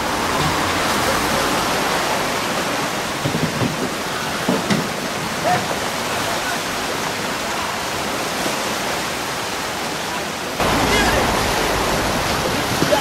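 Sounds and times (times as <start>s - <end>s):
flowing river water: 0.0s - 13.0s
rain: 0.0s - 13.0s.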